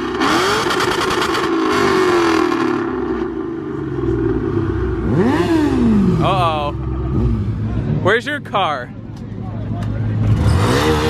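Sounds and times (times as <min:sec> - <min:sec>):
car engine revving: 0:00.0 - 0:08.1, 0:09.6 - 0:11.0.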